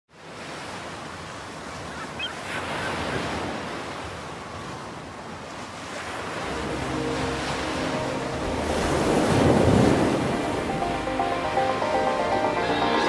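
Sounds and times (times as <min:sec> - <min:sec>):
waves breaking: 0:00.1 - 0:13.0
wind: 0:00.1 - 0:13.0.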